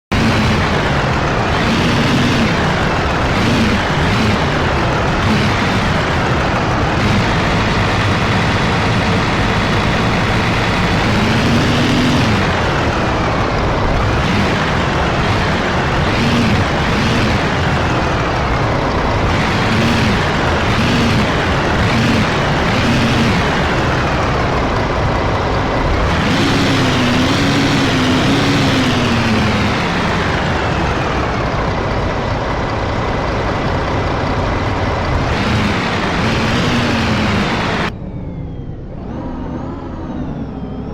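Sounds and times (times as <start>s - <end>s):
bus diesel engine accelerating: 0.0s - 40.9s.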